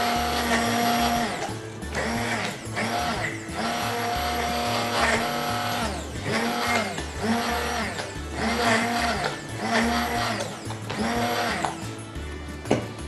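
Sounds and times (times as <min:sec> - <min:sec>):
immersion blender motor whirring: 0:00.0 - 0:12.1
background music: 0:00.0 - 0:13.0.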